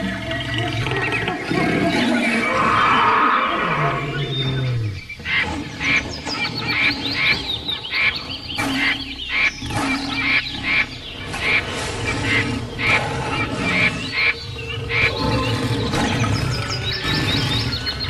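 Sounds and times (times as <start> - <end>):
high birdsong chirps: 0.0 - 18.0.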